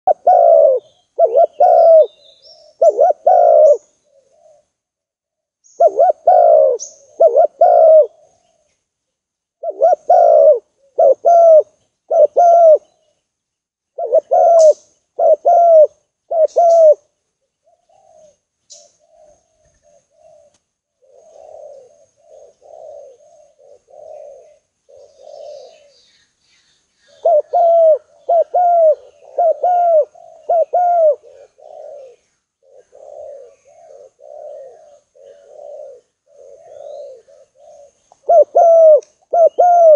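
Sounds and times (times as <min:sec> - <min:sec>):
dove cooing: 0:00.1 - 0:04.8, 0:05.7 - 0:08.7, 0:09.6 - 0:13.0, 0:13.9 - 0:26.1, 0:27.0 - 0:39.9
small birds chirping: 0:00.1 - 0:04.9, 0:05.6 - 0:39.9.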